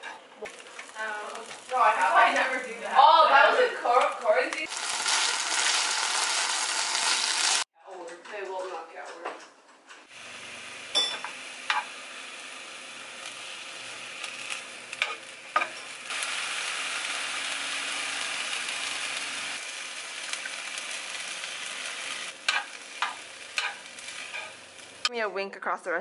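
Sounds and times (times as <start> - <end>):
rice sizzling in frying pan: 0.4 - 3.3, 3.9 - 7.7, 10.1 - 25.1.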